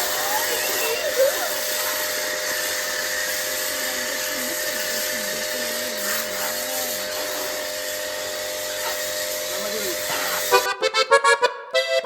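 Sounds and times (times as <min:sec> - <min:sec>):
pressure washer motor whine: 0:00.0 - 0:10.8
spray hissing: 0:00.0 - 0:11.2.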